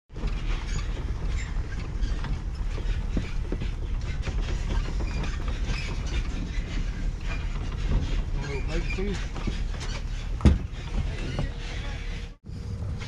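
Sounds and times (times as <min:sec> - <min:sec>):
light clattering rattle: 0:00.1 - 0:12.2
boat engine low rumble: 0:00.1 - 0:13.0.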